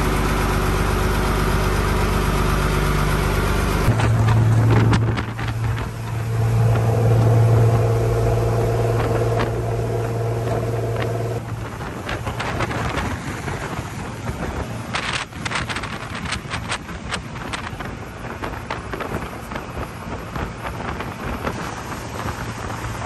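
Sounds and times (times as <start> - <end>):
boat engine drone: 0.0 - 23.0
rushing water and spray: 0.0 - 23.0
wind buffeting microphone: 3.0 - 23.0.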